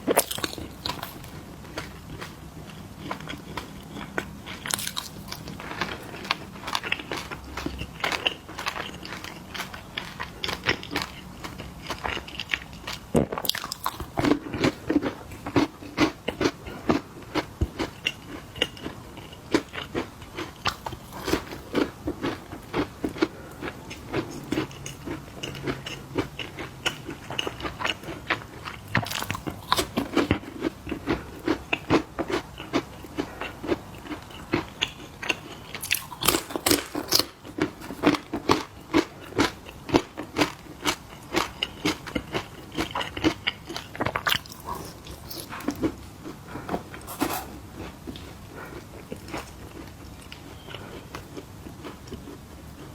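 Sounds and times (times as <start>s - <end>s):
crunchy snacks being chewed: 0.0s - 52.9s.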